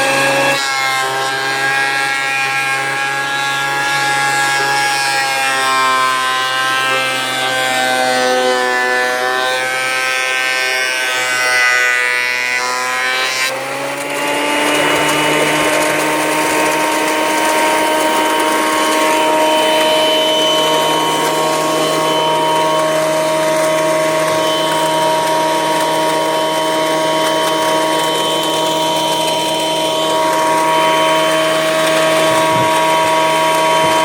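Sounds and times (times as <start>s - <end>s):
electric planer running: 0.0s - 34.0s.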